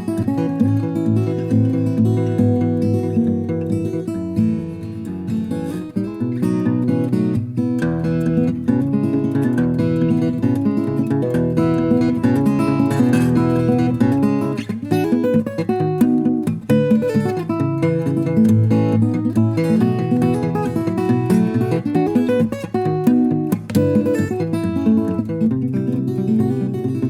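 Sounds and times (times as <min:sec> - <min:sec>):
fingerstyle acoustic guitar: 0:00.0 - 0:27.0.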